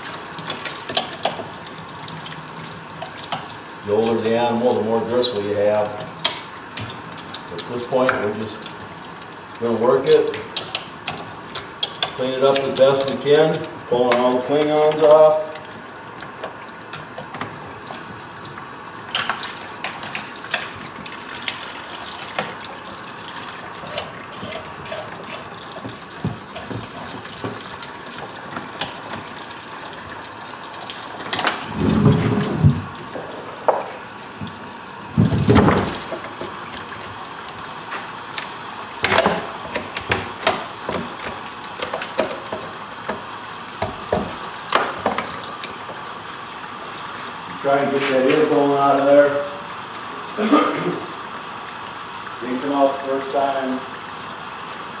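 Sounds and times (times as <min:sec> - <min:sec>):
hose water running into sink: 0:00.0 - 0:55.0.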